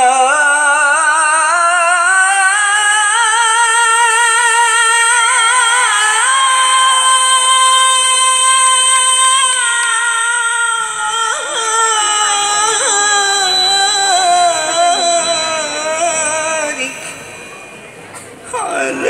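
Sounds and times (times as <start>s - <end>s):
person singing unaccompanied over pa: 0.0s - 17.7s, 18.5s - 19.0s.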